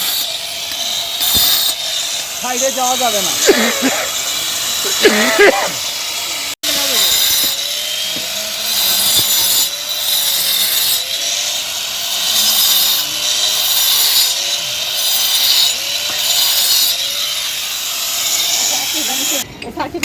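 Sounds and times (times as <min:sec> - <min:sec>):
angle grinder cutting masonry: 0:00.0 - 0:19.5.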